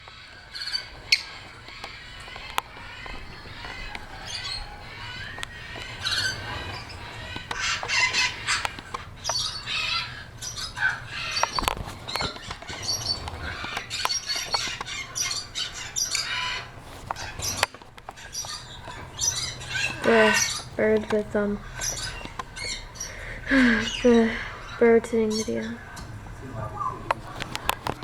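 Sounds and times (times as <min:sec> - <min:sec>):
birds chirping and squawking: 0:00.0 - 0:28.0.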